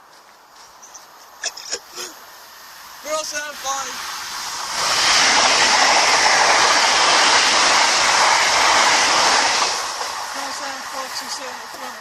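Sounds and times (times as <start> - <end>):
train passing at speed: 2.3 - 12.0.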